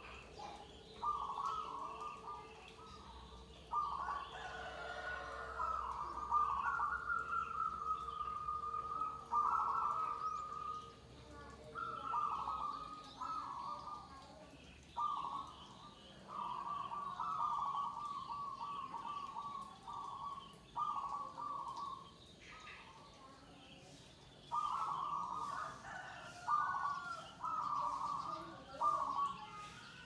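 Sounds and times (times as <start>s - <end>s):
dove cooing in trills: 0.0s - 14.3s, 15.0s - 22.1s, 24.5s - 29.6s.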